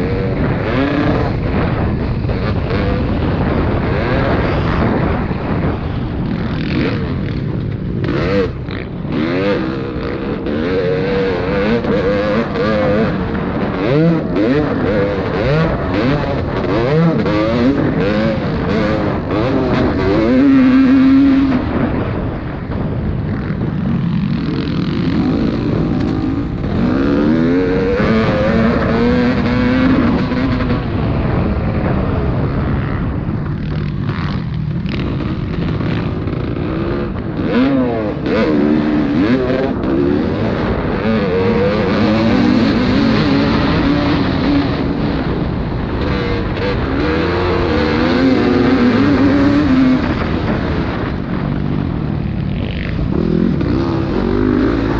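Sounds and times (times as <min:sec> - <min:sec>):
motocross bikes revving: 0:00.0 - 0:54.9.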